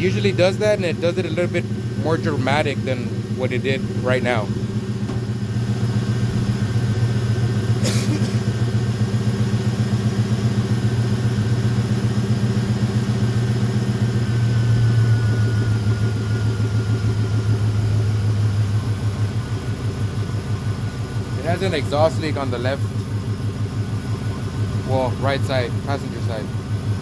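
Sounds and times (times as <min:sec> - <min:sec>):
faint whine: 0:00.0 - 0:09.1, 0:14.0 - 0:27.0
car engine idling: 0:00.0 - 0:27.0.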